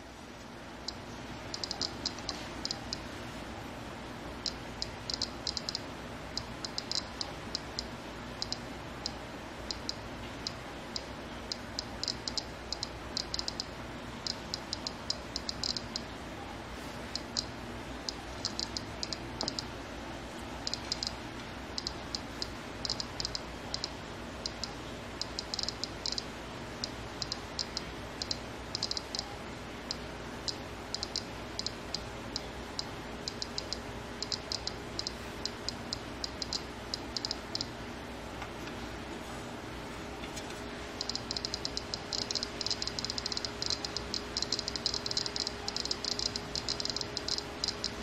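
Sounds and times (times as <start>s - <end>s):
radiation detector buzzer clicking: 0.9s - 3.1s, 4.4s - 16.1s, 18.1s - 19.7s, 20.6s - 21.2s, 21.8s - 29.3s, 29.9s - 37.8s, 41.0s - 48.0s.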